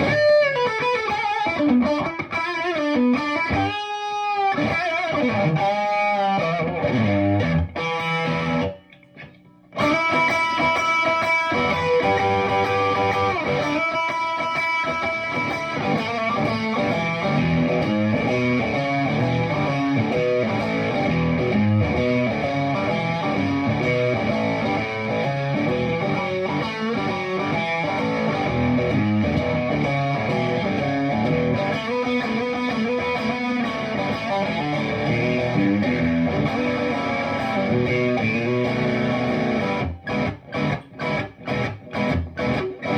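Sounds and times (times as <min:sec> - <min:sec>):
electric guitar chords and lines: 0:00.0 - 0:42.9.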